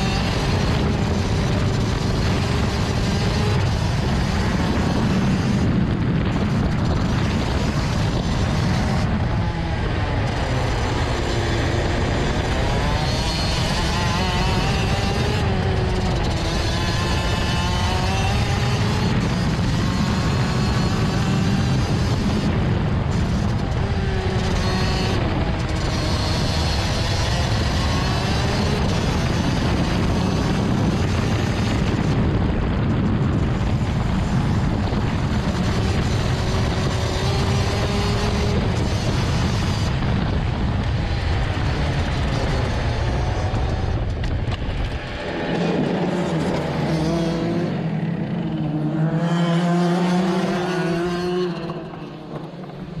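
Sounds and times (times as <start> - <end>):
two-stroke kart engine running: 0.0 - 53.0
wind rumble on microphone: 0.0 - 53.0.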